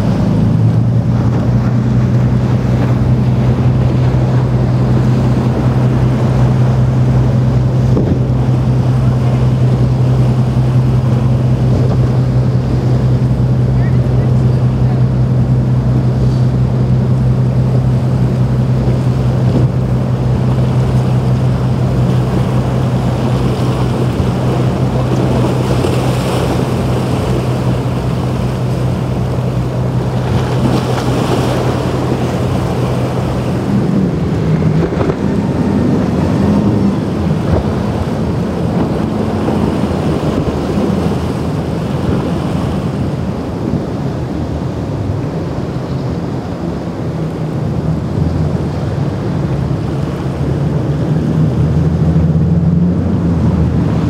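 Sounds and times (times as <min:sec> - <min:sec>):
motorboat engine droning: 0:00.0 - 0:54.0
waves and spray rushing: 0:00.0 - 0:54.0
wind buffeting microphone: 0:00.0 - 0:54.0.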